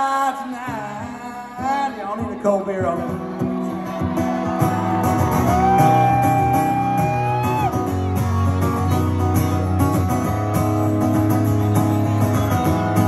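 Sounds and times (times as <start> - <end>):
guitar: 0.0 - 13.0
live country band playing: 0.0 - 13.0.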